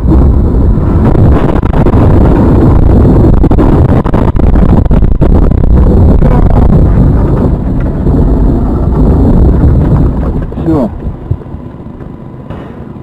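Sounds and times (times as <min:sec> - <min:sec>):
heavy vehicle rumble: 0:00.0 - 0:13.0
wind buffeting microphone: 0:00.0 - 0:13.0.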